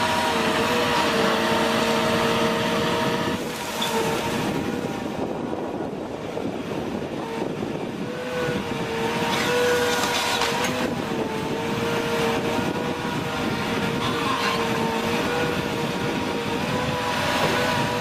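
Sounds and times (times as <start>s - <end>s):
heavy machine engine whining: 0.0s - 18.0s
rough noisy background: 0.0s - 18.0s.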